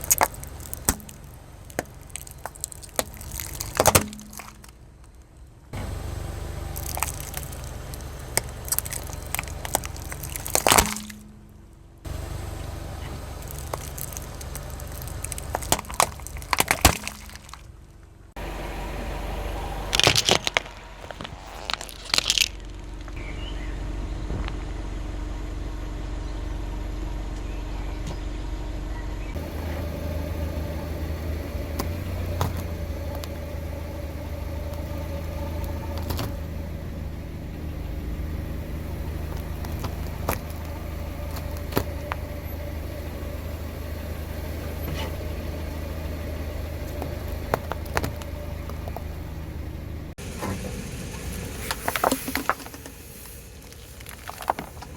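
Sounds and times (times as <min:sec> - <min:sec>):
tyre crushing crunchy objects: 0:00.0 - 0:18.1, 0:19.8 - 0:24.8, 0:29.3 - 0:49.6, 0:50.2 - 0:54.9
car engine humming: 0:00.0 - 0:54.9.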